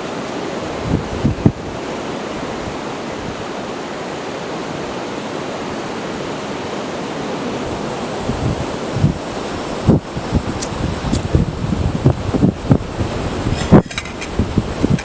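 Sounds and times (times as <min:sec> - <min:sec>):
rain on a beach: 0:00.0 - 0:13.6
high surf rushing: 0:00.0 - 0:15.0.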